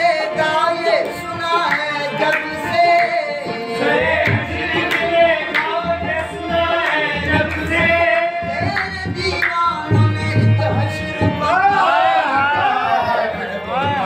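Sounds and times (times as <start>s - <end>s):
rhythmic hand clapping: 0.0s - 11.7s
harmonium: 0.0s - 14.0s
men singing: 0.0s - 14.0s.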